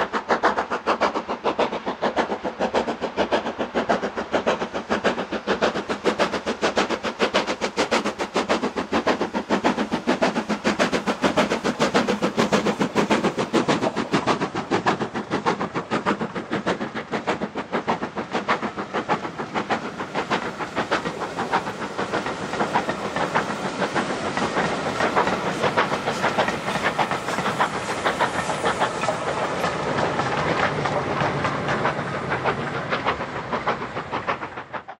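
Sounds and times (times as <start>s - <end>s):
steady hiss of steam: 0.0s - 35.0s
steam locomotive chuffing: 0.0s - 35.0s.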